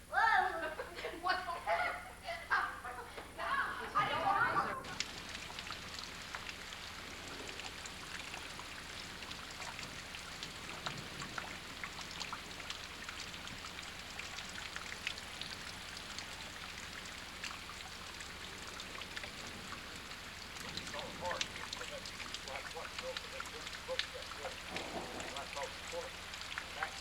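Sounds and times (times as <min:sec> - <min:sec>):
rain drops hitting: 0:00.0 - 0:27.0
rain hiss: 0:00.0 - 0:27.0.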